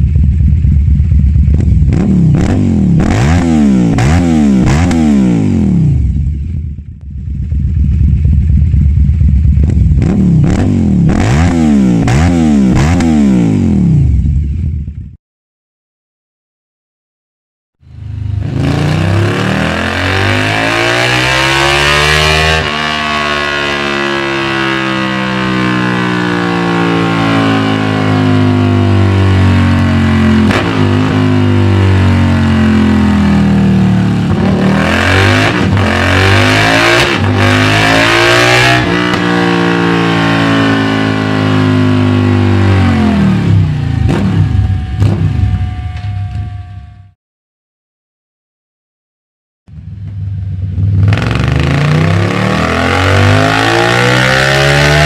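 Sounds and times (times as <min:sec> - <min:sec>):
motorcycle engine revving: 0:00.0 - 0:15.2, 0:17.8 - 0:46.7, 0:49.7 - 0:55.0.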